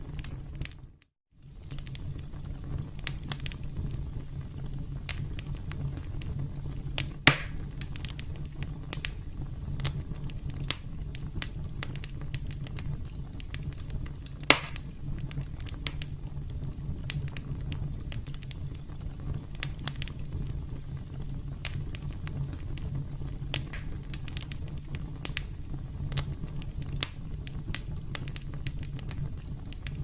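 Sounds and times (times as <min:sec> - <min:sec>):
loud fire pops: 0:00.0 - 0:30.0
campfire crackling: 0:01.4 - 0:30.0.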